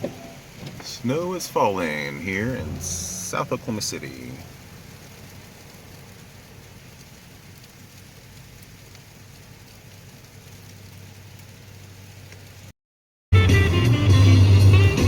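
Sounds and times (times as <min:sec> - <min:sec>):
car road and engine noise: 0:00.0 - 0:12.7.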